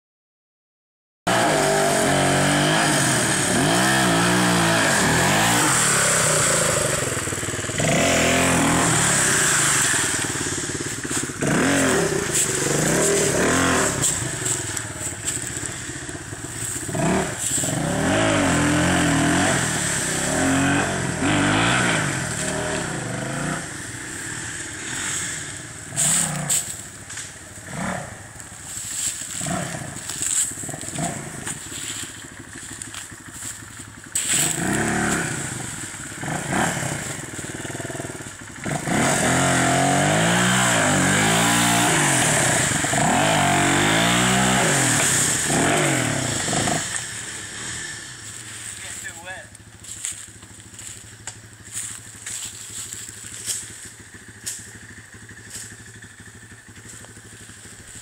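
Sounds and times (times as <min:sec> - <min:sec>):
dirt bike engine revving: 0:01.3 - 0:58.0.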